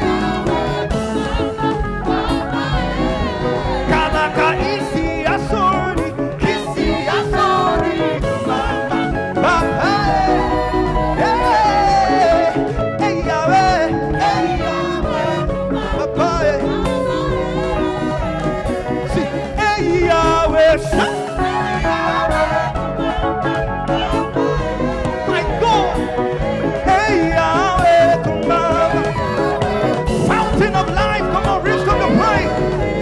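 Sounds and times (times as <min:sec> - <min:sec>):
church band worship music: 0:00.0 - 0:33.0
person singing: 0:00.0 - 0:33.0.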